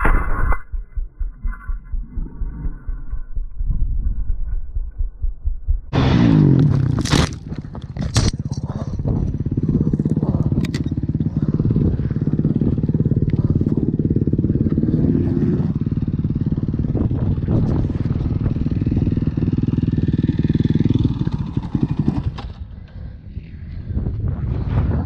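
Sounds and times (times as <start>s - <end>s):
dirt bike engine idling: 2.0s - 23.5s.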